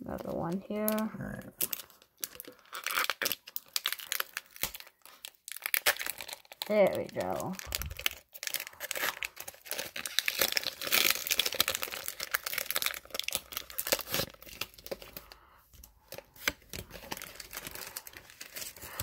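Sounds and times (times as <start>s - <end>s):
foil wrapper tearing and crinkling: 0.1s - 19.0s.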